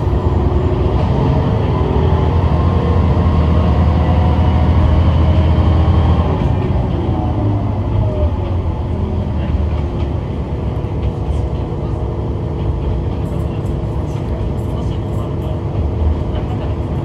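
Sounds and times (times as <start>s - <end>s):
railcar engine drone: 0.0s - 17.0s.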